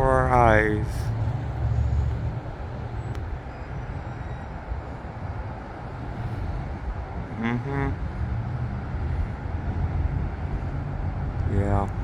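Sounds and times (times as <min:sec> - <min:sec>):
distant road traffic: 0:00.0 - 0:12.0
wind on microphone: 0:00.0 - 0:12.0.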